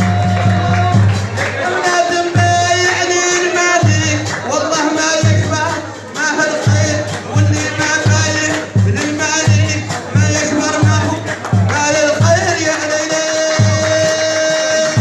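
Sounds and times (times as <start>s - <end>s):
music with low beat: 0.0s - 15.0s
person singing: 0.0s - 15.0s.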